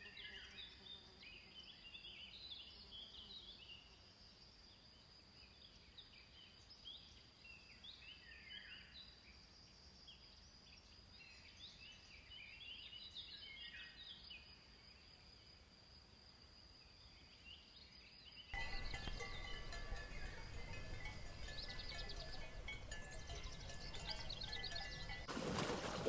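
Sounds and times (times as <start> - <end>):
faint birdsong chirps: 0.0 - 15.7, 16.6 - 26.0.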